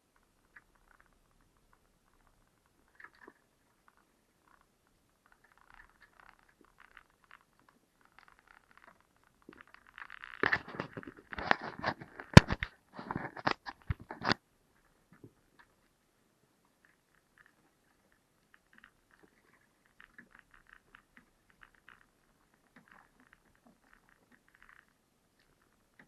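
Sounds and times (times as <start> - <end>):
crunching and scraping with clicks: 0.0 - 14.4, 16.6 - 26.0.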